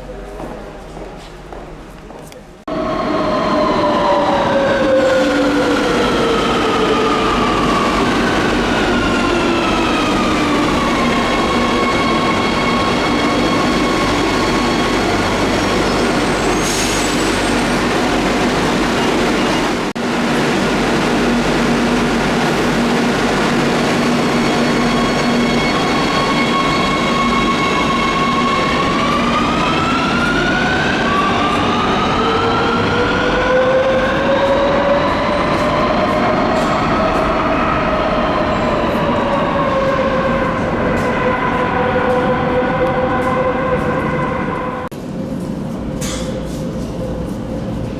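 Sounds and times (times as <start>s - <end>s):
train rail and running noise: 0.0s - 47.9s.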